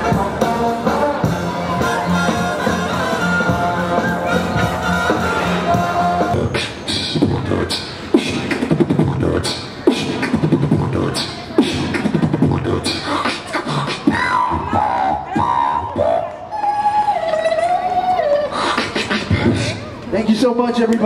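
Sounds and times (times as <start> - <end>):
amplified beatboxing: 0.0 - 19.8.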